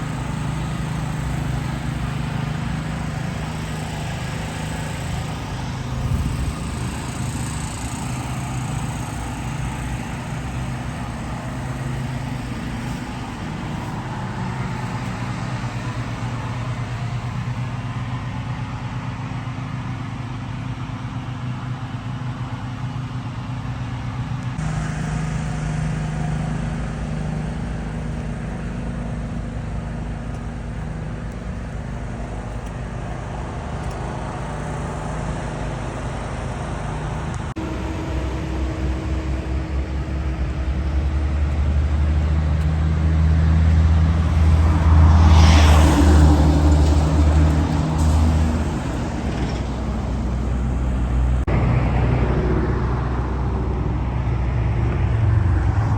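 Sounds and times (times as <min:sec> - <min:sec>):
car engine and road noise: 0:00.0 - 0:55.9
passing vehicle: 0:00.0 - 0:55.9.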